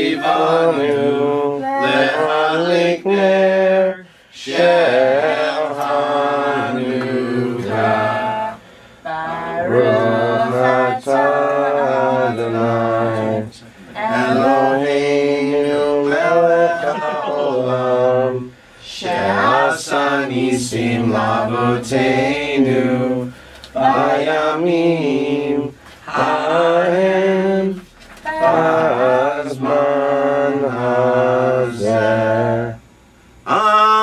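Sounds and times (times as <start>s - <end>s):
group singing unaccompanied: 0.0s - 32.8s.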